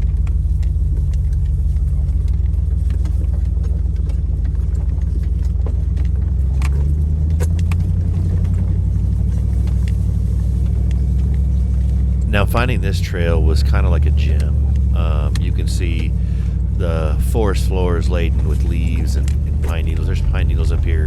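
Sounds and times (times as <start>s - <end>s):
off-road vehicle engine hum: 0.0s - 21.0s
tyres and body clicking: 0.0s - 21.0s.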